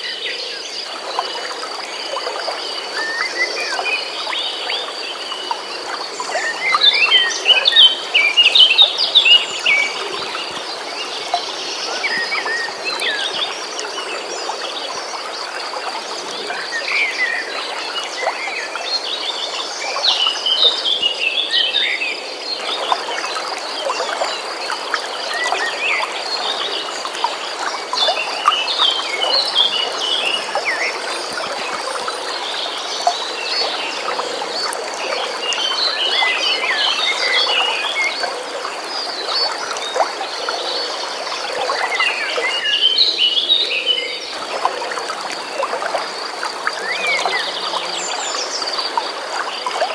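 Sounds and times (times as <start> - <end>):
stream flowing: 0.0 - 49.9.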